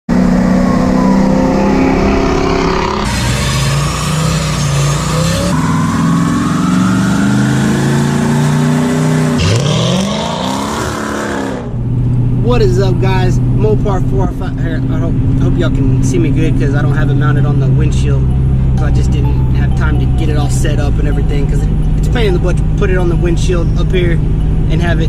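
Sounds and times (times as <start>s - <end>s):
car engine revving: 0.1s - 25.0s.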